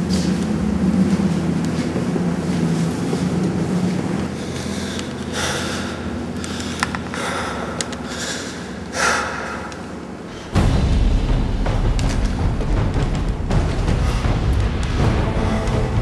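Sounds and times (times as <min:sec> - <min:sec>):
heavy noisy breaths: 0:00.0 - 0:11.0, 0:12.2 - 0:16.0
low steady rumble: 0:00.0 - 0:16.0.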